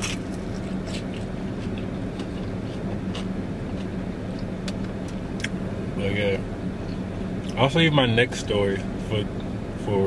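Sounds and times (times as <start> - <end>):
car engine idling hum: 0.0 - 10.0.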